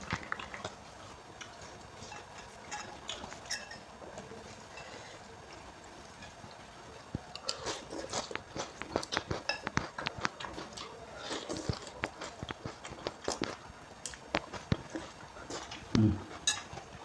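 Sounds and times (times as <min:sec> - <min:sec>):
chewing crunchy noodles: 0:00.0 - 0:06.3, 0:07.2 - 0:17.0.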